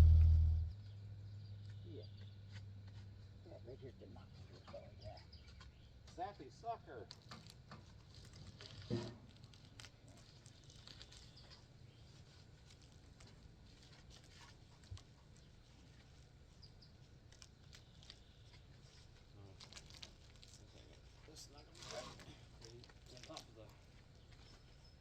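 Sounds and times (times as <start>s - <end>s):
faint ticks and rustles: 0.8s - 25.0s.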